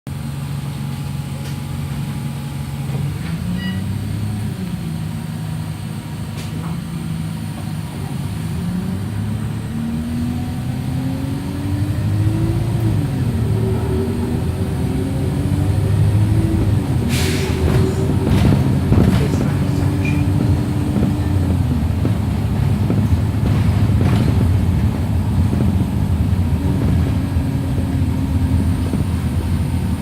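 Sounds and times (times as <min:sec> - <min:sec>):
bus engine running: 0:00.1 - 0:30.0.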